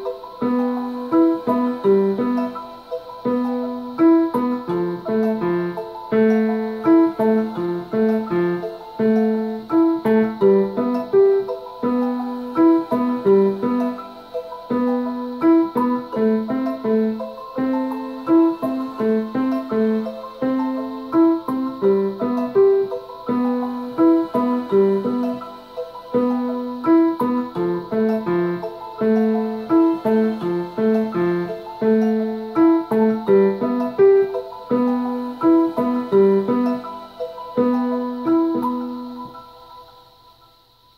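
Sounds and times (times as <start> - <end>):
digital piano broken chords: 0.0 - 40.9
recorded music: 0.0 - 40.9.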